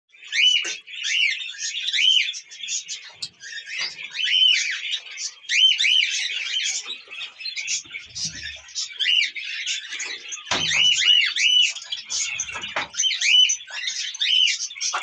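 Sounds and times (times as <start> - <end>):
caged birds chirping and chattering: 0.1 - 15.0
loud arched bird chirps: 0.2 - 15.0.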